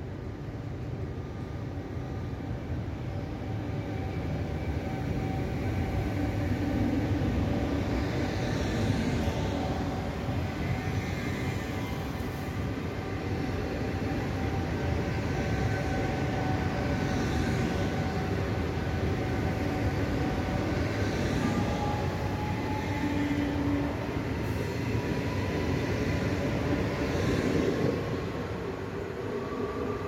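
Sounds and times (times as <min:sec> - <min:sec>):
train wheels rumbling on rails: 0:03.0 - 0:30.0.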